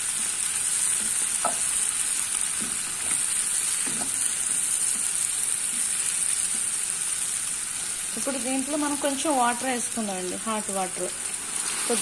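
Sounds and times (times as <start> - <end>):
beans sizzling in oil: 0.0 - 12.0.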